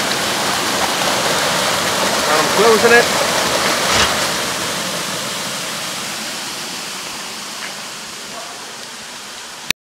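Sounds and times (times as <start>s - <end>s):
water gushing through sluice gate: 0.0s - 9.7s.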